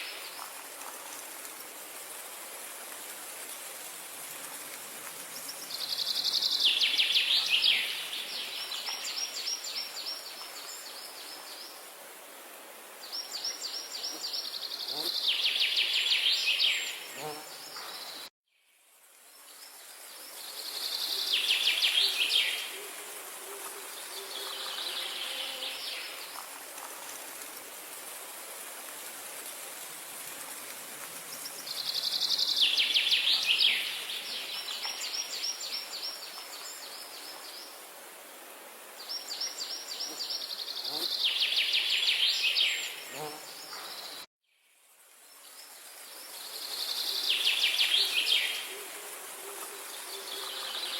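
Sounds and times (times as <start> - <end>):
outdoor ambience hiss: 0.0 - 50.9.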